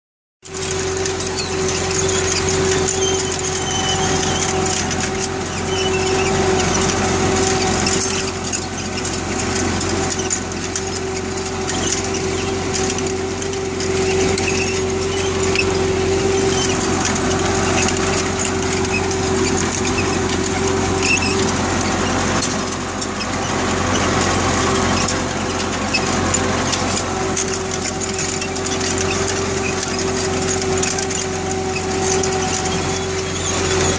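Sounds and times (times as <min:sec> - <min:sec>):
tractor diesel engine under load: 0:00.4 - 0:33.9.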